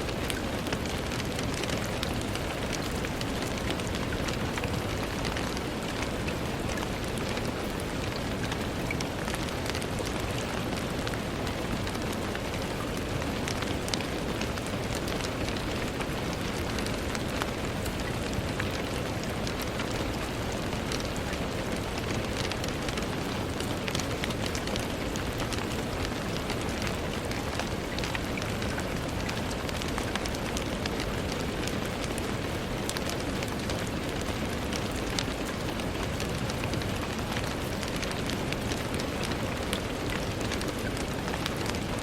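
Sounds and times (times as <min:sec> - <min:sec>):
hiss of rainfall: 0:00.0 - 0:42.0
rain ticking on a window: 0:00.0 - 0:42.0.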